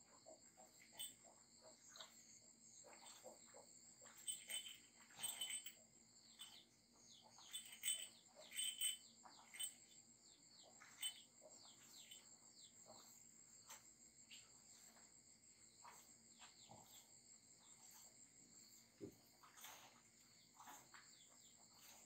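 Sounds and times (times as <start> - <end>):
small birds chirping: 2.8 - 22.0.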